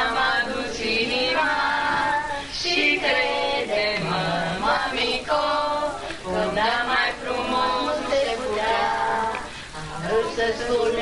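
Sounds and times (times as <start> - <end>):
children singing over speakers: 0.0 - 11.0.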